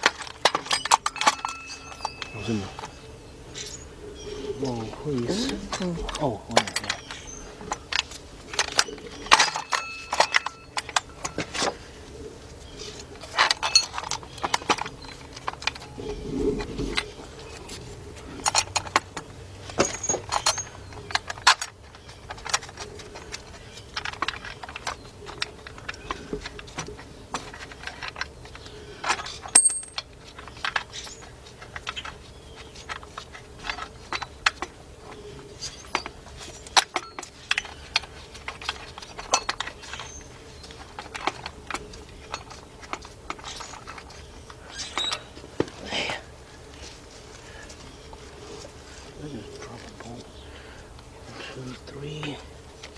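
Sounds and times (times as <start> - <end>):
metal tools clinking: 0.0 - 3.9, 4.5 - 11.9, 12.8 - 16.0, 16.6 - 45.3
faint hum: 0.1 - 52.9.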